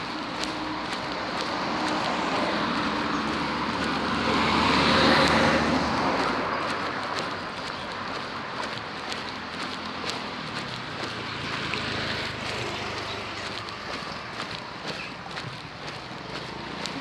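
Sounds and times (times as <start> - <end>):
traffic noise: 0.0 - 17.0
vehicle passing by: 0.0 - 17.0.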